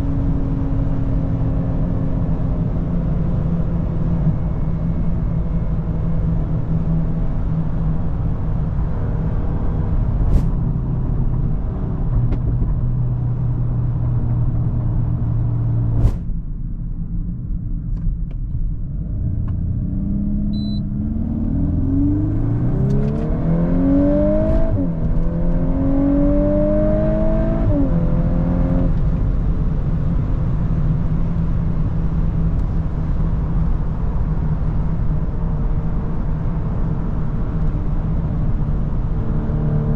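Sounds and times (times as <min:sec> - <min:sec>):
car engine accelerating: 0:00.0 - 0:16.4, 0:18.8 - 0:39.9.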